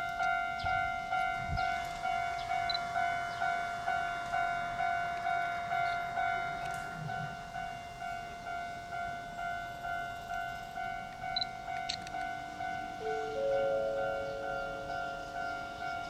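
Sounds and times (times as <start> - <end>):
level-crossing warning bell ringing: 0.0 - 16.0.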